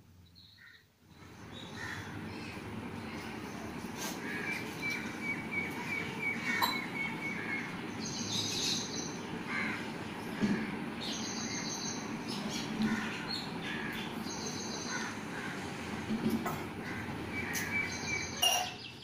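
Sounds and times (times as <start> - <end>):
birds calling: 0.2 - 19.0.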